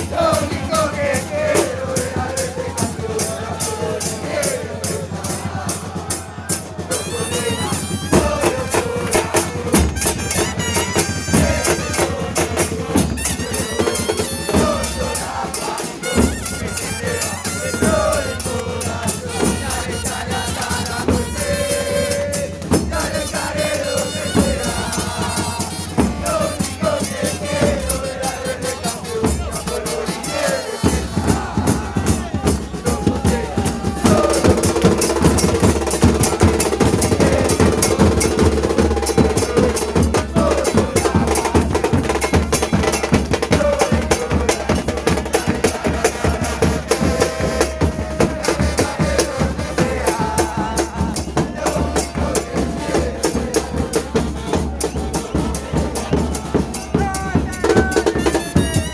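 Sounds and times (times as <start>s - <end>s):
fast drumming: 0.0s - 58.9s
people singing: 0.0s - 58.9s.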